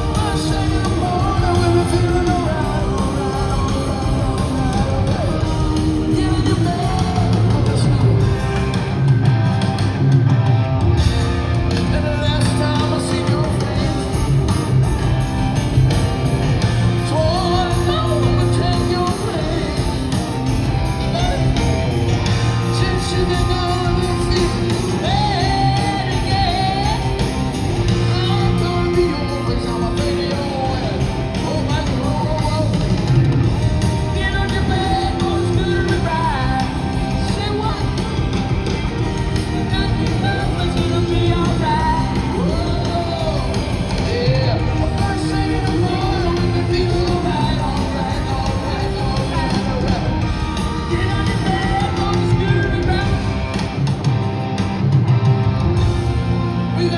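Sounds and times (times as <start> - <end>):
man singing: 0.0 - 9.0, 11.5 - 14.9, 16.4 - 53.6, 56.7 - 56.9
live rock band playing: 0.0 - 56.9.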